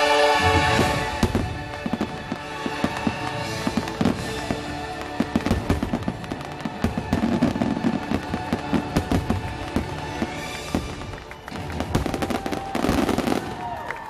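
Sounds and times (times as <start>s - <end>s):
show music: 0.0s - 13.8s
fireworks crackling and popping: 0.0s - 14.0s.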